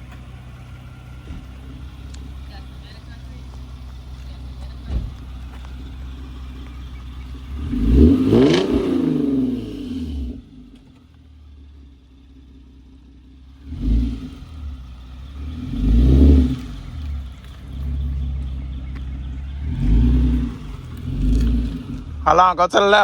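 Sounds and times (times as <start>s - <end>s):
car engine idling: 0.0s - 23.0s
car engine revving: 0.0s - 23.0s.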